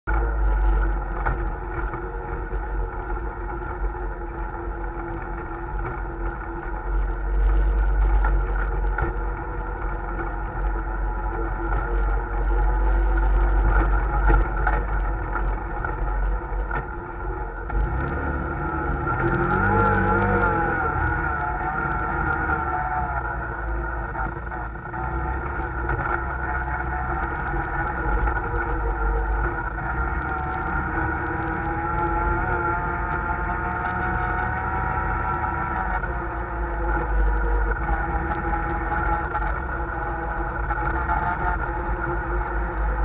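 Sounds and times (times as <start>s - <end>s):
vehicle engine droning: 0.0s - 43.0s.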